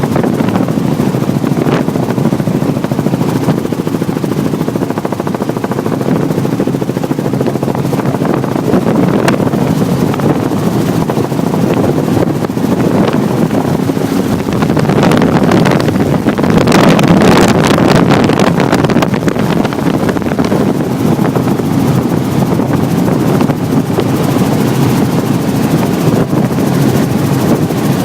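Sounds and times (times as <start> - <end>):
helicopter engine and rotor noise: 0.0 - 28.0
wind buffeting microphone: 0.0 - 28.0.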